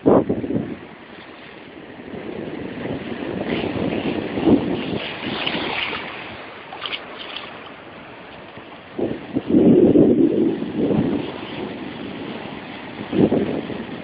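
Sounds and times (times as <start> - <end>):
sea wash: 0.0 - 14.0
wind buffeting microphone: 0.0 - 14.0.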